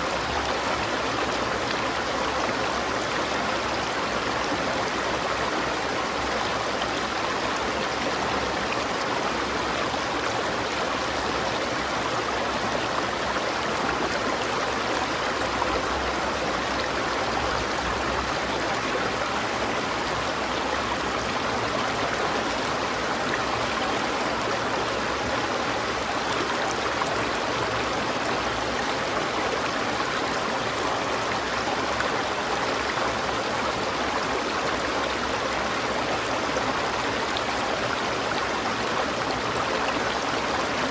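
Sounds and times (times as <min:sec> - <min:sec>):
river water rushing and babbling: 0:00.0 - 0:40.9.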